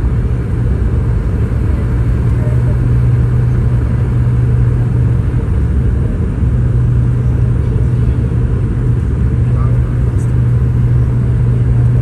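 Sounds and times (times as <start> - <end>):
airliner cabin engine rumble: 0.0 - 12.0
constant low hum: 0.0 - 12.0.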